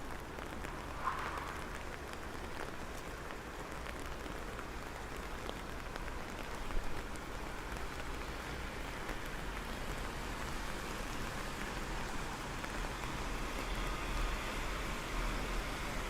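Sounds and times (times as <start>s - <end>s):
rain on hard surfaces: 0.0s - 16.0s.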